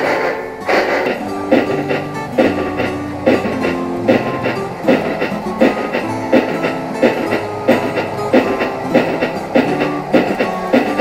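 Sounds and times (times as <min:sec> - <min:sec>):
held music tones: 0:00.0 - 0:11.0
steady drum beat: 0:00.0 - 0:11.0.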